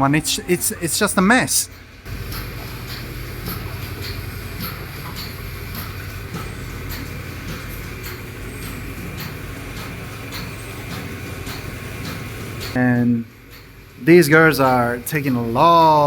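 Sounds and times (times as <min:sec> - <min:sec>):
pulsators ticking: 0:00.0 - 0:16.0
vacuum pump humming: 0:00.0 - 0:16.0.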